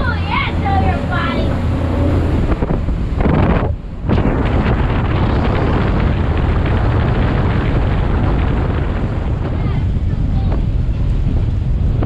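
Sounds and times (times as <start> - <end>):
boat hull and motor noise: 0.0 - 12.0
wind buffeting microphone: 0.0 - 12.0.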